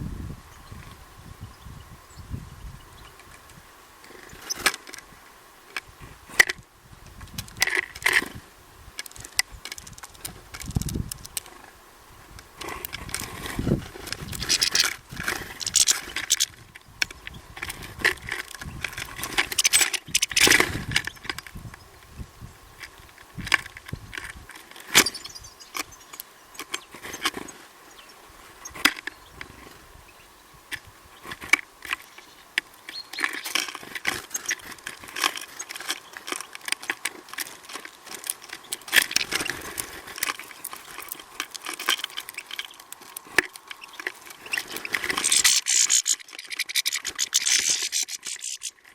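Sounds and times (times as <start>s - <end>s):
birds pecking at a seed feeder: 3.0s - 48.9s.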